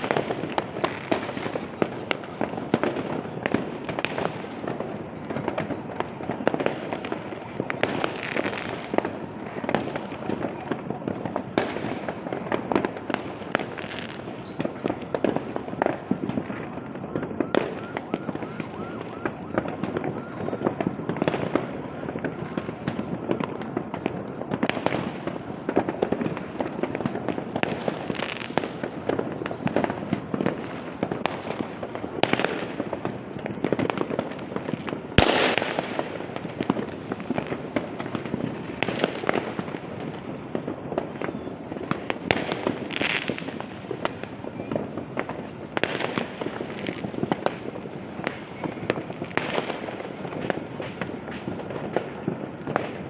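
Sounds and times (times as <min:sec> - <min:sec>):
fireworks and firecrackers crackling: 0:00.0 - 0:53.0.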